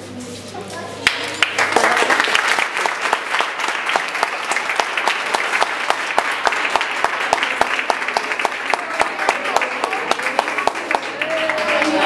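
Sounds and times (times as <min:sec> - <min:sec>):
audience applauding: 0:01.0 - 0:12.0.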